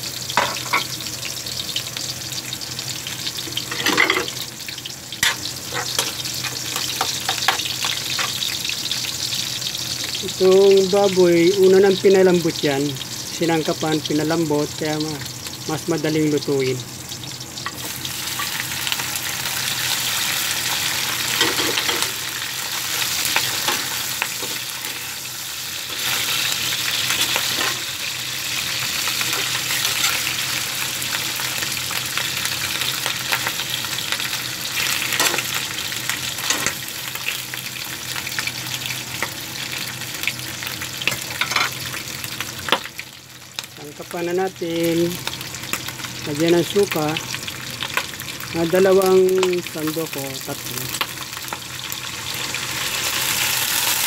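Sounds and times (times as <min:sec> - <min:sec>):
meat sizzling in oil: 0:00.0 - 0:54.0.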